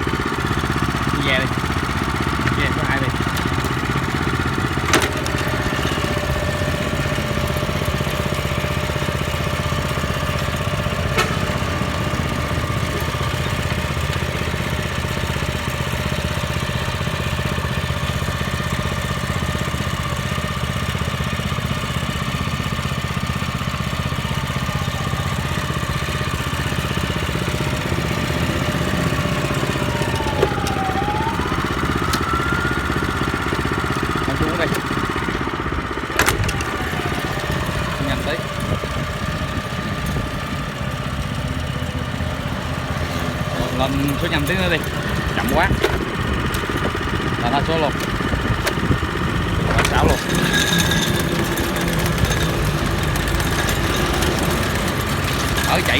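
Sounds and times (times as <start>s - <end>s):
small tiller engine running: 0.0s - 55.9s.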